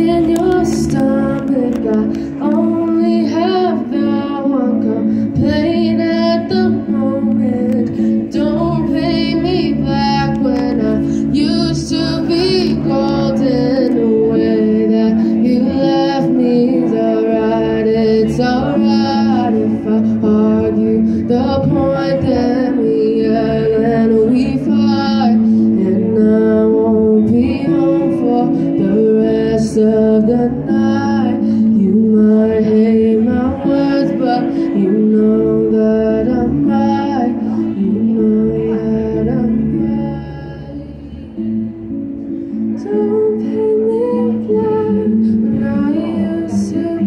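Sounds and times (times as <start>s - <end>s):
acoustic guitar: 0.0s - 47.0s
woman singing into microphone: 0.0s - 47.0s.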